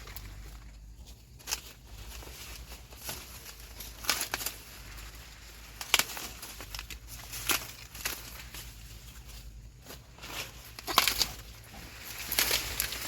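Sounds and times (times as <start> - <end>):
corn ears snapping off stalks: 0.0 - 8.8, 9.8 - 13.0
dry corn leaves rustling: 0.0 - 13.0.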